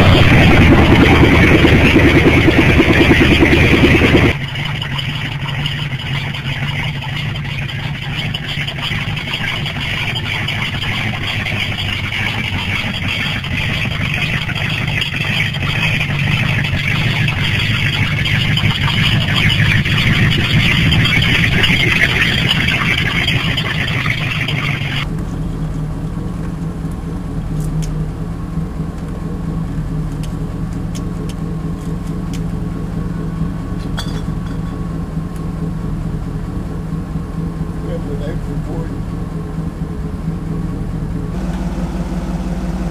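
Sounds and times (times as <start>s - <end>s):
car engine idling through exhaust: 0.0s - 42.9s.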